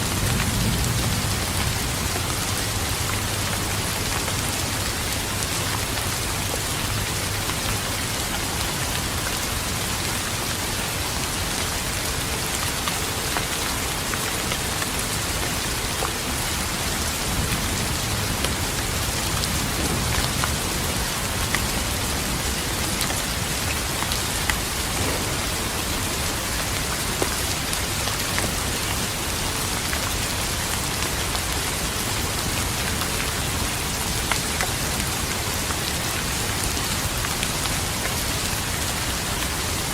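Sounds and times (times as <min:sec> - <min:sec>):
heavy rain hissing: 0:00.0 - 0:39.9
raindrops ticking on a surface: 0:00.0 - 0:39.9.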